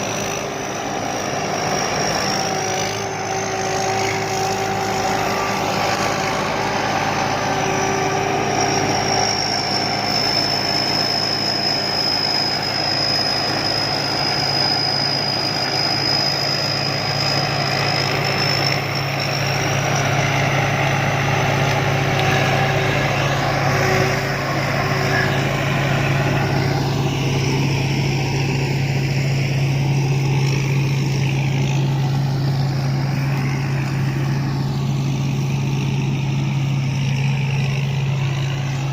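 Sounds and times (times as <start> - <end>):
combine harvester running: 0.0 - 38.9
high machine whine: 0.0 - 38.9.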